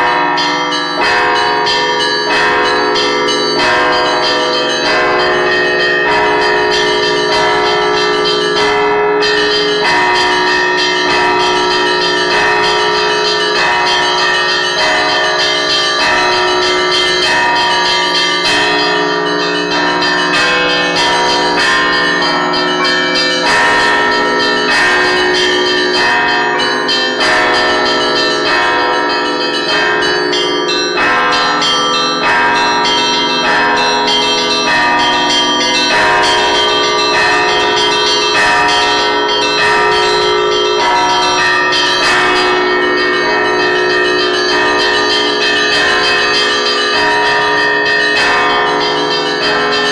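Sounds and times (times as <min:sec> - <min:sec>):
small bells struck rapidly: 0:00.0 - 0:49.9.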